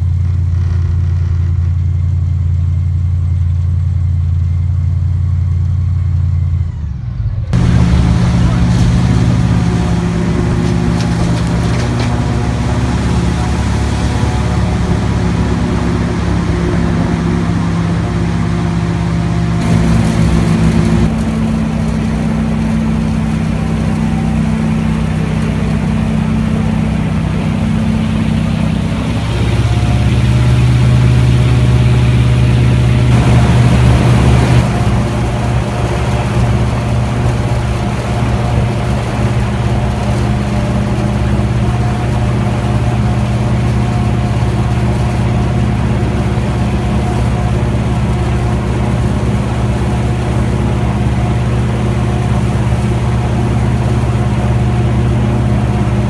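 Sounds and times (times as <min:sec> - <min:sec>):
airboat engine and propeller drone: 0:00.0 - 0:56.0.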